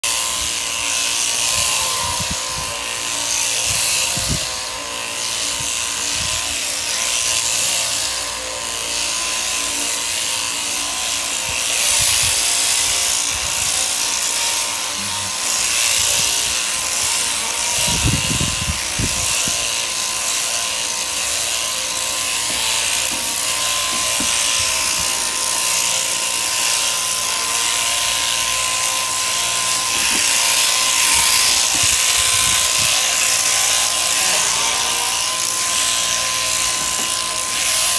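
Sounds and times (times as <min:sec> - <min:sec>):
sheep-shearing handpiece buzzing: 0:00.0 - 0:37.9.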